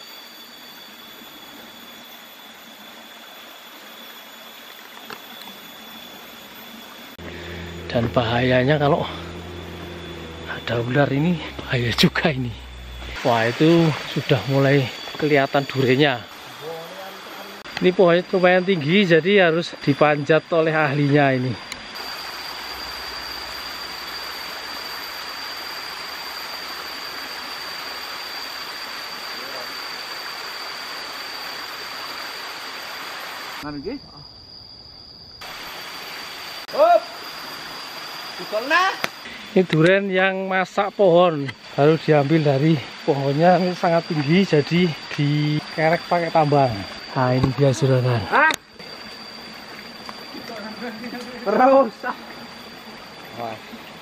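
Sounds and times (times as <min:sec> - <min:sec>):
thin high tone: 0:00.0 - 0:34.2, 0:35.4 - 0:54.0
high-pitched whine: 0:00.0 - 0:54.0.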